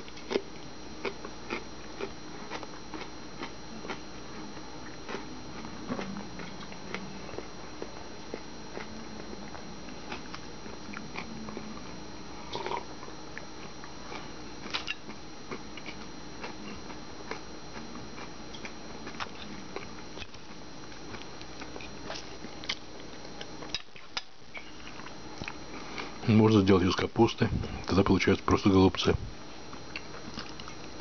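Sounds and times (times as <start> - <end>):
person chewing: 0.0 - 26.2, 29.7 - 31.0
steady faint hum: 0.0 - 31.0.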